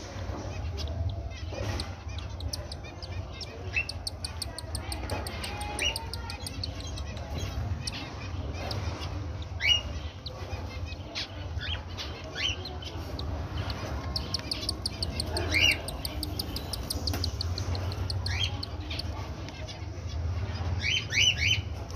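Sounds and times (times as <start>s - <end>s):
chicks squeaking: 0.0s - 21.9s
ticking chirps: 0.6s - 19.7s.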